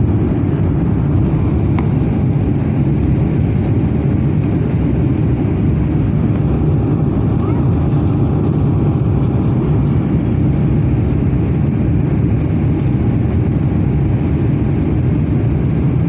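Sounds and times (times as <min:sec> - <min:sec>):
jet engine rumble in cabin: 0:00.0 - 0:16.0
rushing airflow: 0:00.0 - 0:16.0.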